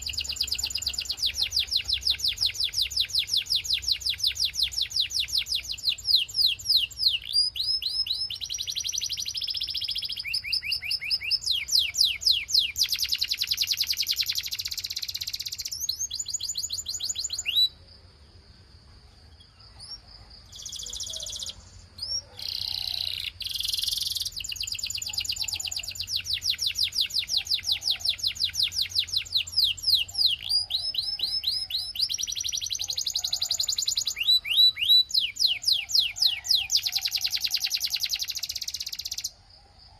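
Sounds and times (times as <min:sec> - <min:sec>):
canary singing trills: 0:00.0 - 0:17.8, 0:19.2 - 0:39.9.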